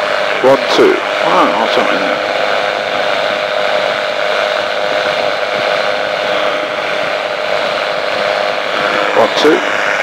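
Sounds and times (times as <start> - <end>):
aircraft engine and propeller drone: 0.0 - 10.0.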